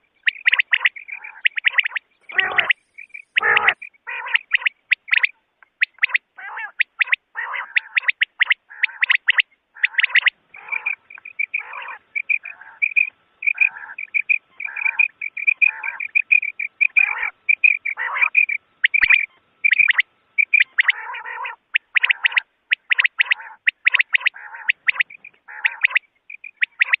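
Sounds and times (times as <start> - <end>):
quail calling: 0.0 - 27.0.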